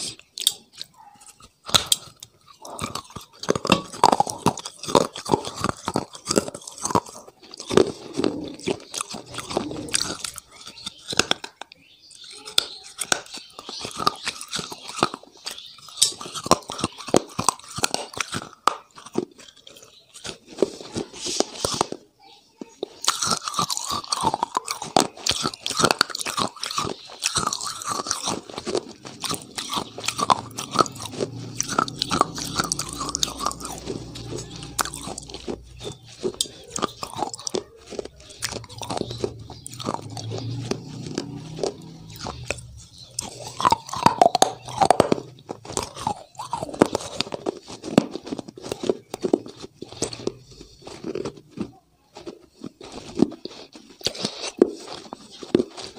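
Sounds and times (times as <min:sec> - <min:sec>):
crunching and chewing food: 0:00.0 - 0:55.9.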